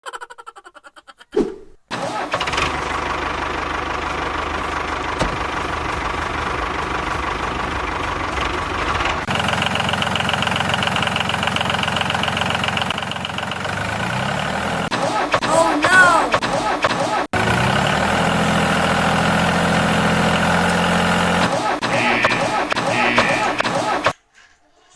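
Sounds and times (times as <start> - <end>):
tractor engine idling: 1.9 - 23.6.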